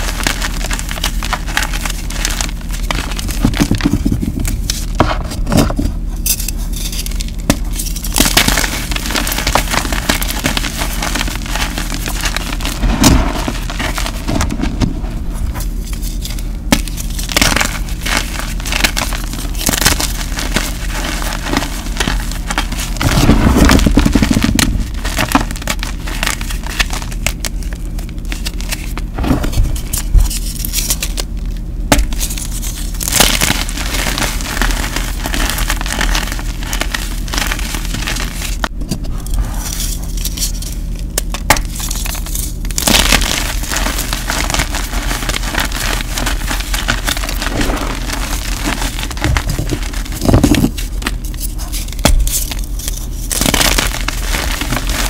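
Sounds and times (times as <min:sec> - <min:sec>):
hands crushing chalk: 0:00.0 - 0:55.0.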